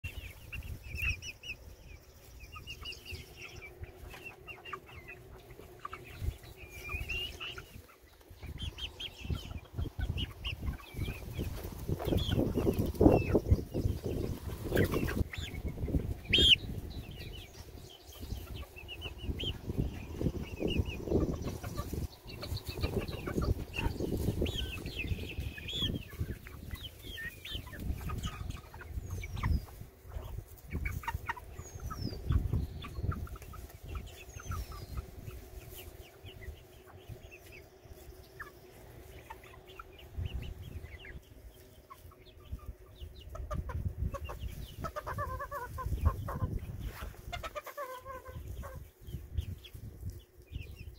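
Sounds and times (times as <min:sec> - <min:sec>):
hens clucking: 0:00.0 - 0:50.9.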